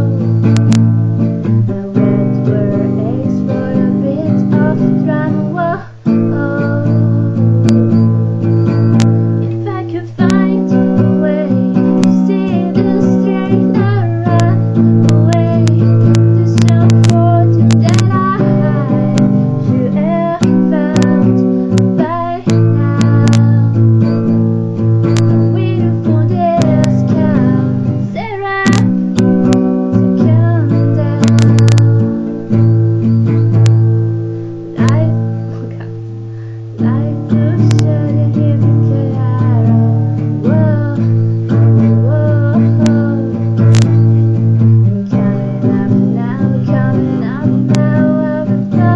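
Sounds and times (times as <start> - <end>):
acoustic guitar strumming: 0.0 - 48.9.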